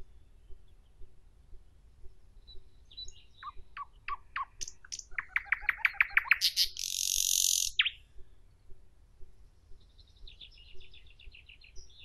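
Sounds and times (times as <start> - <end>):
nightingale singing: 0.0 - 8.7, 9.6 - 12.0.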